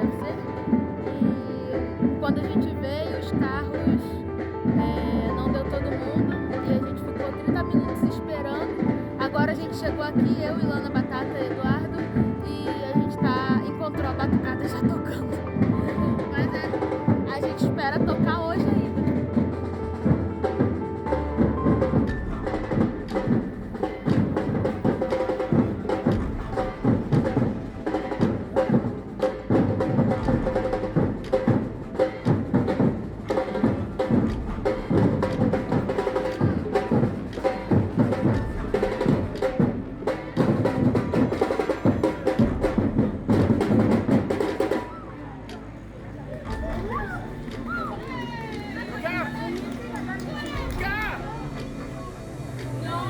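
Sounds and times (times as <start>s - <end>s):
samba percussion ensemble: 0.0s - 53.0s.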